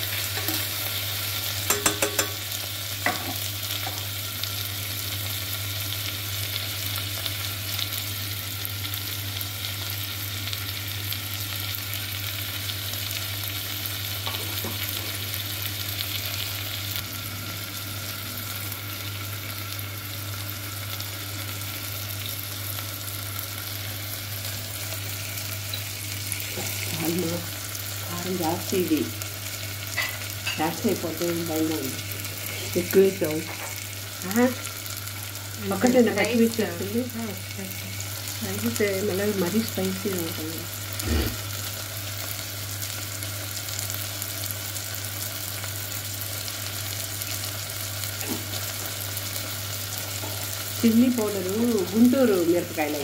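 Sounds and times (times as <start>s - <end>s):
hot oil sizzling: 0.0s - 53.0s.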